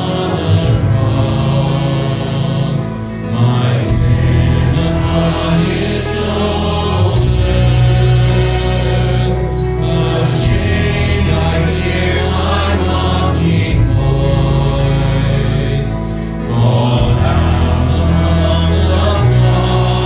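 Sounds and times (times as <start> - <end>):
congregation singing a hymn: 0.0 - 20.0
instrumental accompaniment: 0.0 - 20.0.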